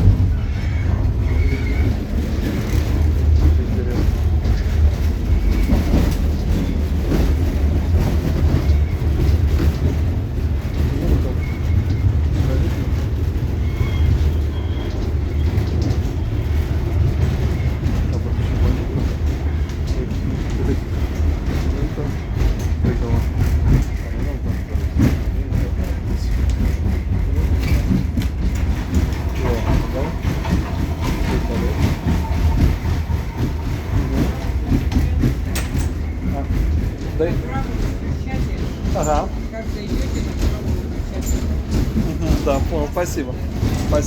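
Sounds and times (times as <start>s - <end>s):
train running gear rumble: 0.0s - 44.0s
wheels and car body rattling: 0.0s - 44.0s.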